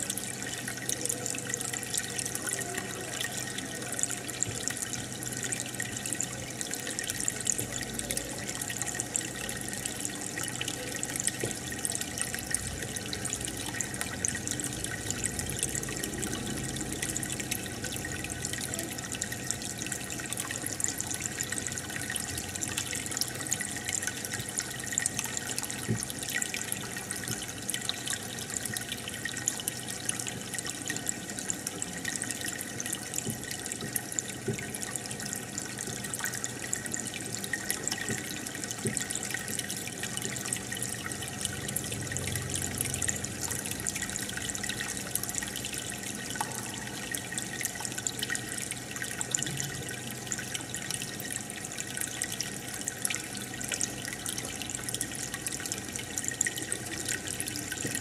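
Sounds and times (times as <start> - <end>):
aquarium water trickling: 0.0 - 58.0.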